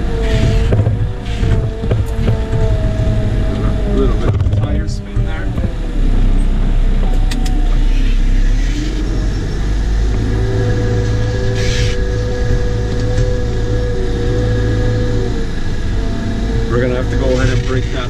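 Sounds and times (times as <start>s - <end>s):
loader diesel engine running: 0.0s - 18.0s.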